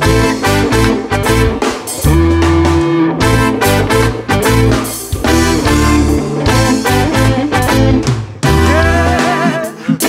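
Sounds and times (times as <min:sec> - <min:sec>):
reggae band playing: 0:00.0 - 0:10.0.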